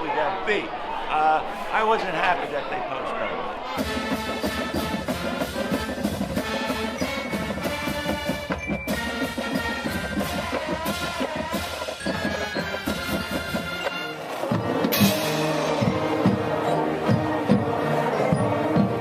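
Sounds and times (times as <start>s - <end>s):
drums beating: 3.7s - 19.0s.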